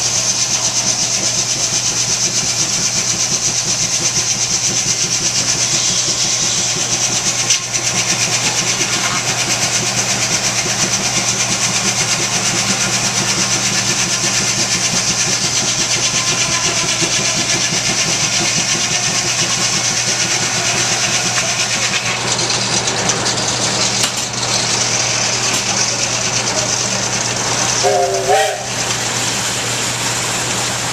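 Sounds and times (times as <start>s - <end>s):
high steam hiss: 0.0s - 22.8s, 23.5s - 30.9s
steam sawmill rhythmic beat: 0.0s - 30.9s.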